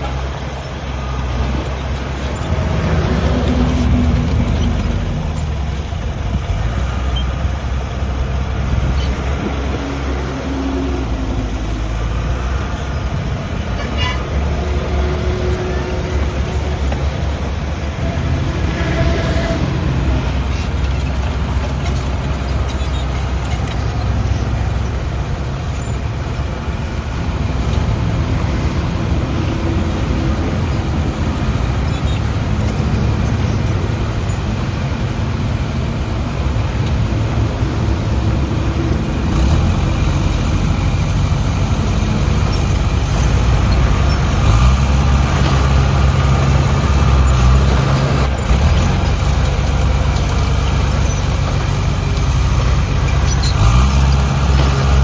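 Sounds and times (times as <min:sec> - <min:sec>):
diesel earthmoving machinery: 0:00.0 - 0:55.0.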